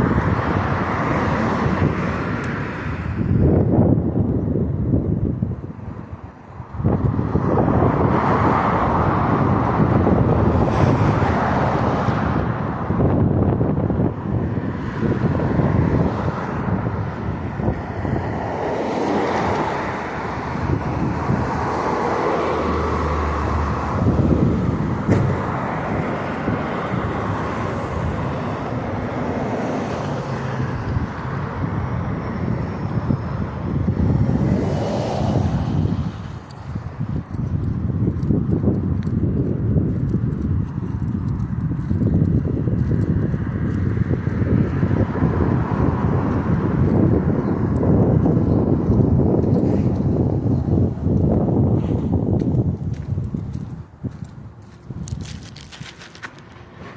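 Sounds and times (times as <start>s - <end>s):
passing road traffic: 0.0s - 56.9s
wind on microphone: 0.0s - 56.9s.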